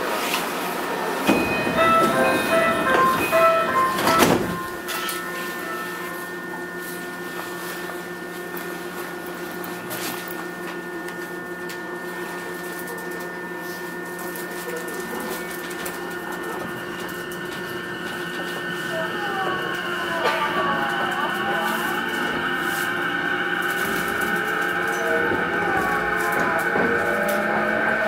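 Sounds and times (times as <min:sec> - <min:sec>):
train electrical hum with tones: 0:00.0 - 0:28.0
gliding inverter whine: 0:01.2 - 0:28.0.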